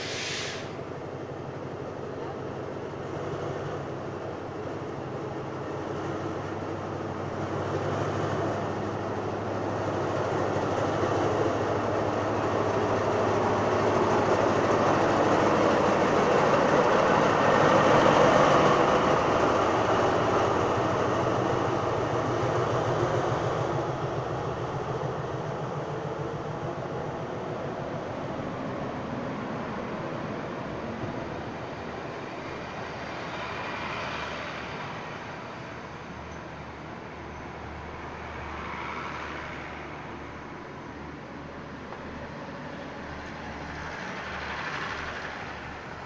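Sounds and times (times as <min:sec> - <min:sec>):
diesel locomotive engine running: 0:00.0 - 0:38.6, 0:39.4 - 0:46.0
train coaches rolling on rails: 0:00.0 - 0:46.0.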